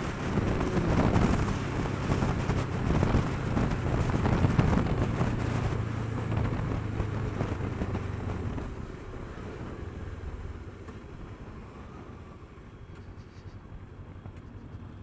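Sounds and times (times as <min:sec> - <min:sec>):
motorcycle engine cruising: 0:00.0 - 0:13.3
wind rush on microphone: 0:00.0 - 0:15.0.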